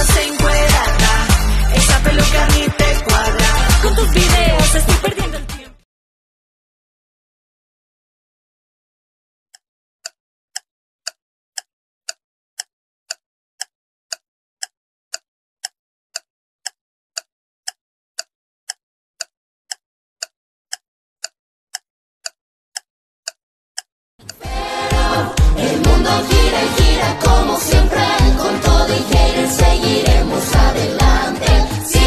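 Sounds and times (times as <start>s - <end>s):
clock ticking: 0.0s - 5.5s, 9.5s - 32.0s.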